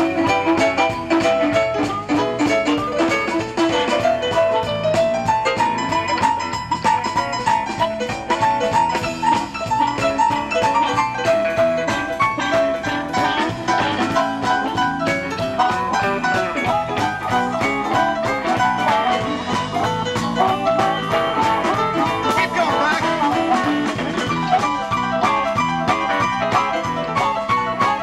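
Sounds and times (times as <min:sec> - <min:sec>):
blues band playing: 0:00.0 - 0:28.0.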